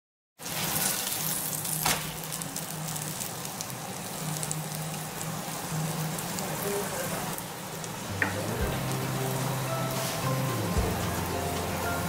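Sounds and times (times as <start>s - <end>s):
flatbread sizzling in a frying pan: 0.4s - 12.0s.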